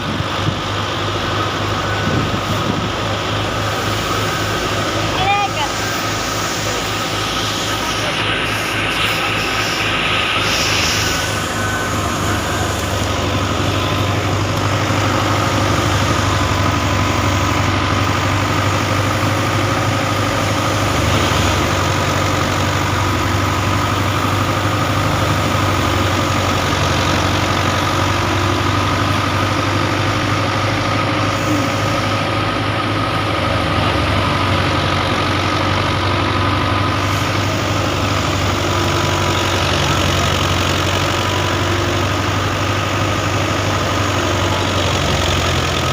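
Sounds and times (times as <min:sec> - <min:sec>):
farm machinery engine drone: 0:00.0 - 0:45.9.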